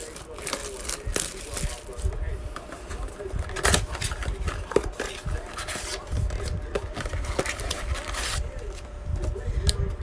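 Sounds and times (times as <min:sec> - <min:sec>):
plastic wrap and cardboard tearing: 0:00.0 - 0:02.2, 0:02.8 - 0:08.8.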